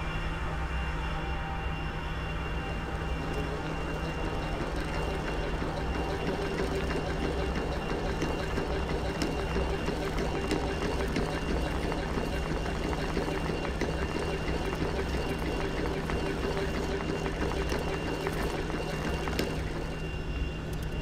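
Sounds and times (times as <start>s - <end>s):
machine hum: 0.0s - 21.0s
small clicks: 3.2s - 21.0s.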